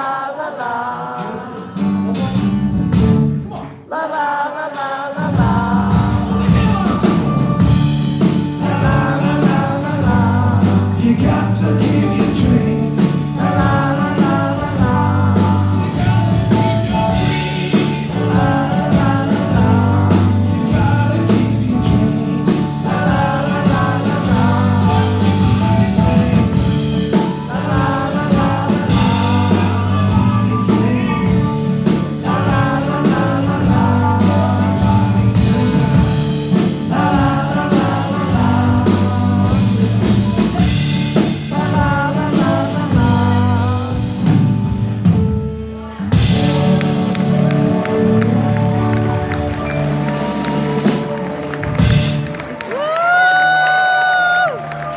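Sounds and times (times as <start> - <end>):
people singing: 0.0 - 44.6, 46.0 - 48.6
steady drum beat: 0.6 - 3.9, 4.8 - 54.9
live rock band playing: 0.7 - 3.8, 5.2 - 54.9.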